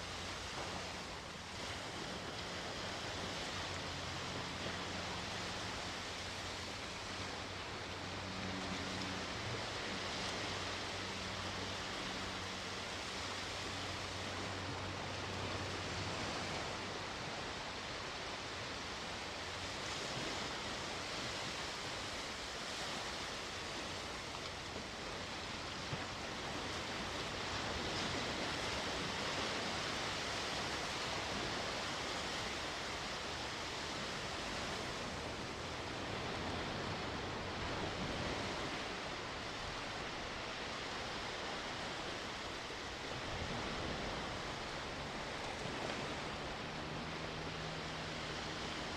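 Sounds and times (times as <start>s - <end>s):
waves washing onto shore: 0.0s - 48.9s.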